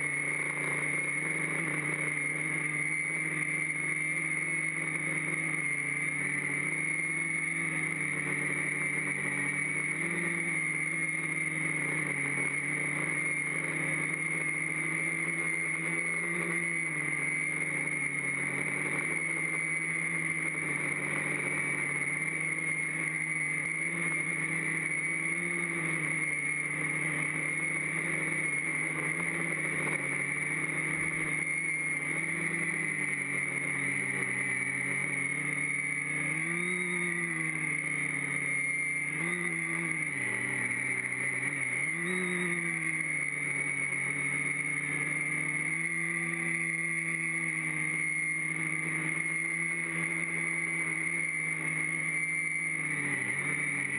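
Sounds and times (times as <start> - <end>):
drone motors buzzing: 0.0 - 53.9.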